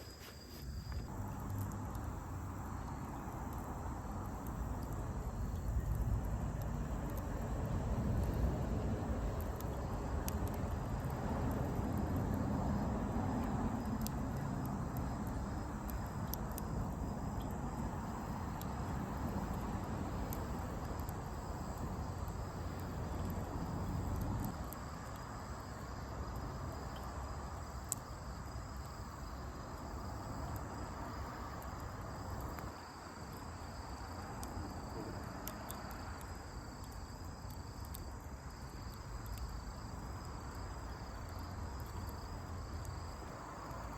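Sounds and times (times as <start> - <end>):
campfire crackling: 0.0 - 43.9
insects trilling: 0.0 - 43.9.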